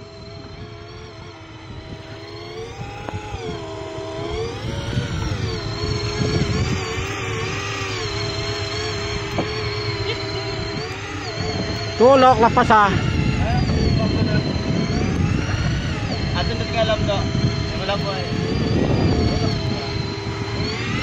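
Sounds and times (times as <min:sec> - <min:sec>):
boat engine revving: 0:00.0 - 0:21.0.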